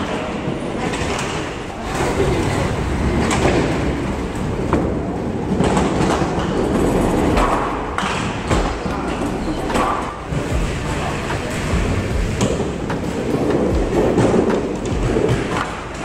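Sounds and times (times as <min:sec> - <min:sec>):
bowling balls rolling: 0:00.0 - 0:16.0.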